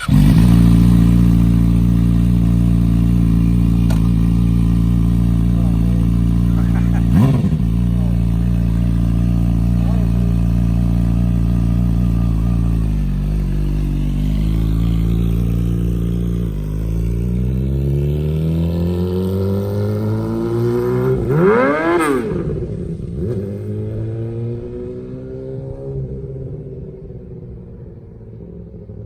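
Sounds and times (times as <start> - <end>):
motorcycle accelerating: 0.0 - 29.0.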